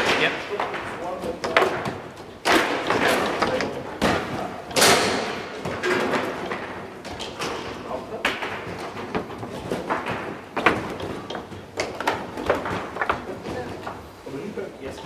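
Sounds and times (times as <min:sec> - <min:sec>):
foosball clacks and thuds: 0:00.0 - 0:14.2.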